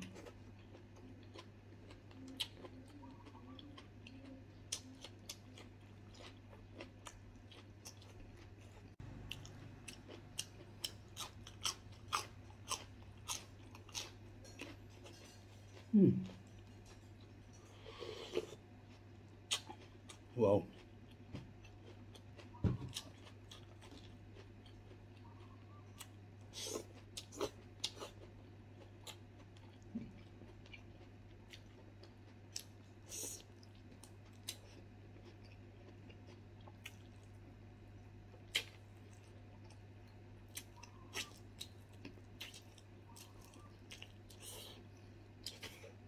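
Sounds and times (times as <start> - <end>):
low steady hum: 0.0 - 46.0
person chewing meat: 0.0 - 46.0.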